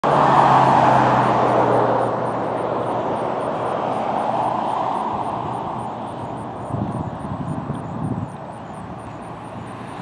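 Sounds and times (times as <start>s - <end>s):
vehicle passing close by: 0.0s - 10.0s.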